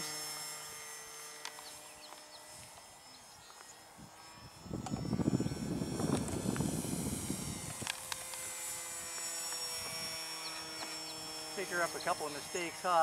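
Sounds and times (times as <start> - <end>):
electric model plane motor whine: 0.0 - 13.0.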